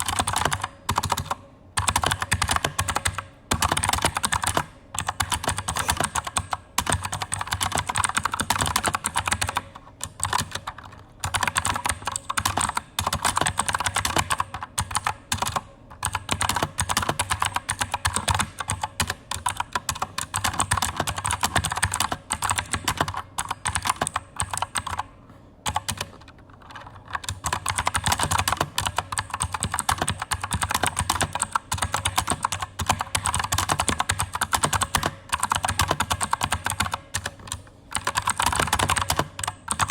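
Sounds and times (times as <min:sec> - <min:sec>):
clicky mechanical keyboard typing: 0:00.0 - 0:39.9.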